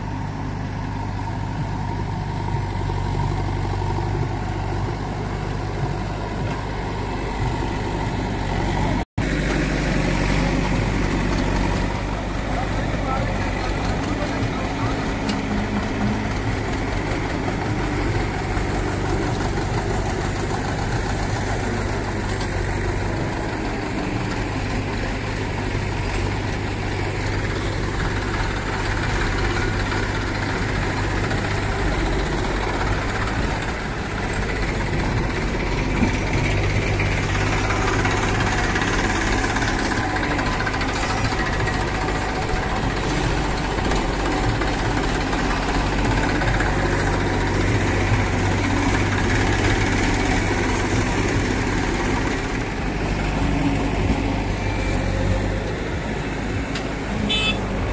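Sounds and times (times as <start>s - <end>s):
diesel engines idling: 0.0s - 57.9s.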